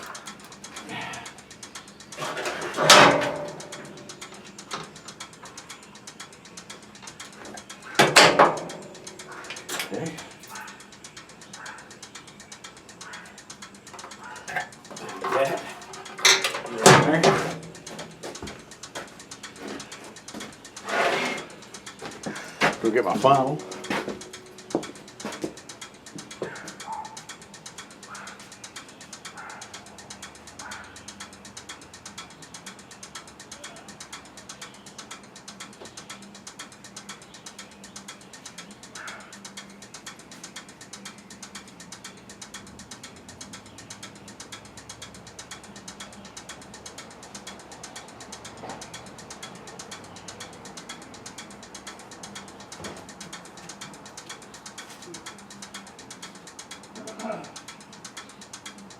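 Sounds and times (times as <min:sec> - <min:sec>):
fast mechanical clicking: 0:00.0 - 0:58.9.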